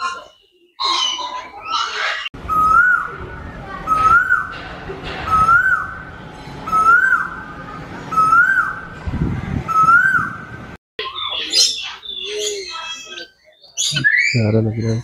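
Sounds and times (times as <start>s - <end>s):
chattering squawking bird calls: 0.0s - 9.0s, 9.6s - 15.0s.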